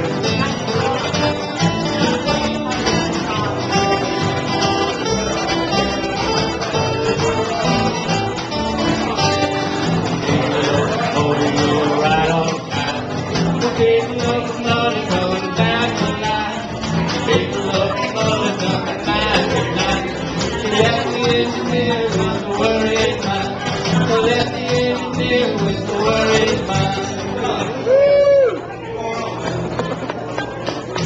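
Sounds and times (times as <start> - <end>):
jug band playing: 0.0 - 28.6.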